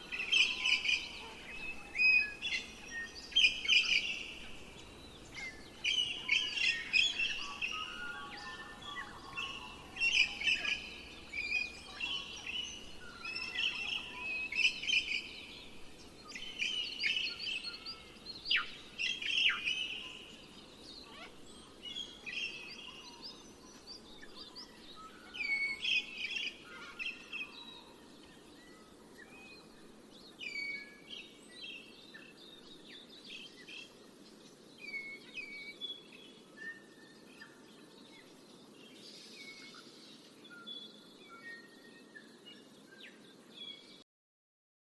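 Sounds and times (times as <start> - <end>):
faint background hiss: 0.0 - 44.0
songbirds chirping and trilling: 0.0 - 44.0.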